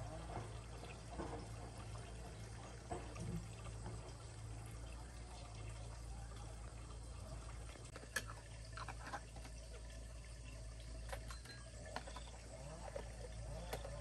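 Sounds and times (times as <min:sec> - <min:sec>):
liquid pouring into a jar: 0:00.0 - 0:14.0.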